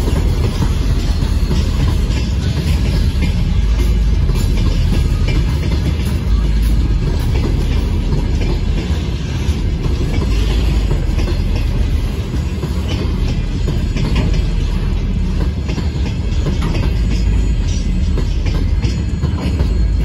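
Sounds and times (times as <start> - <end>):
freight train rumble: 0.0 - 20.0.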